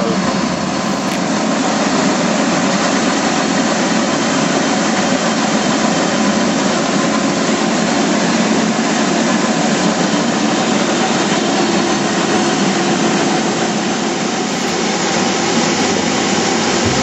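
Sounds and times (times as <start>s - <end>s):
roller mill running: 0.0s - 17.0s.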